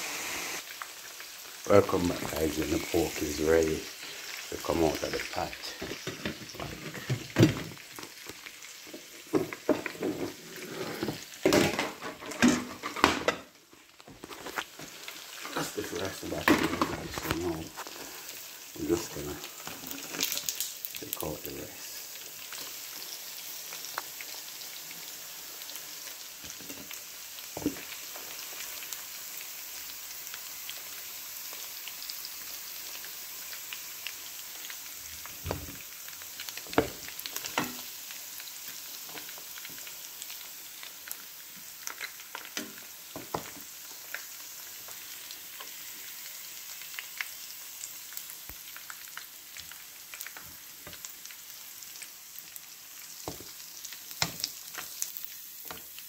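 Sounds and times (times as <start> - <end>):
pork sizzling in fat: 0.0 - 56.0
fat crackling and popping: 0.5 - 31.7, 32.4 - 56.0.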